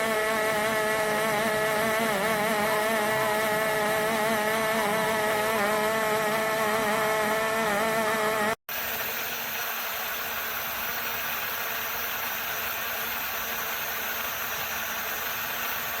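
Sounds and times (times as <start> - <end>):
blender motor whirring: 0.0 - 16.0.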